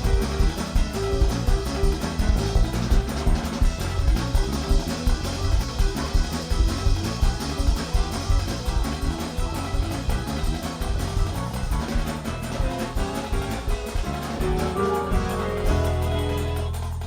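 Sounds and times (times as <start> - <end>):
instrumental band music: 0.0 - 17.0.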